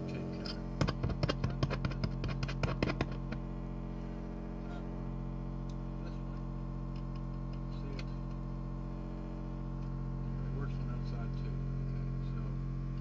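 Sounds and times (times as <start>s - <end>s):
electrical hum from speaker: 0.0s - 13.0s.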